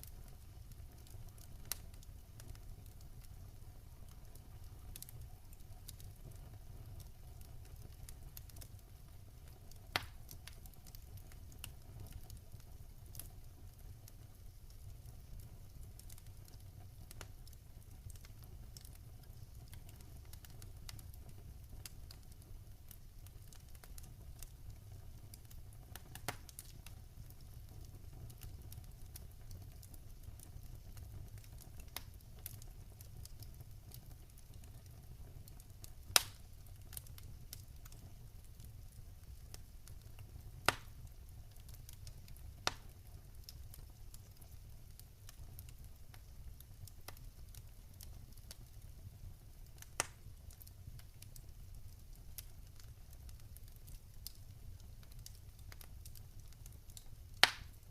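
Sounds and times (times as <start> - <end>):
fire crackling and popping: 0.0 - 57.9
low rumble of flame: 0.0 - 57.9.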